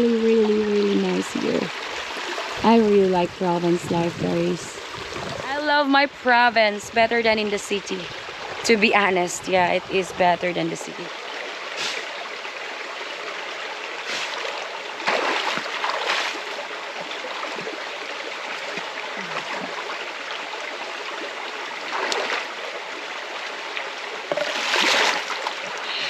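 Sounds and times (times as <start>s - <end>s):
water splashing: 0.0s - 12.3s, 14.0s - 26.0s
river water flowing: 0.0s - 26.0s.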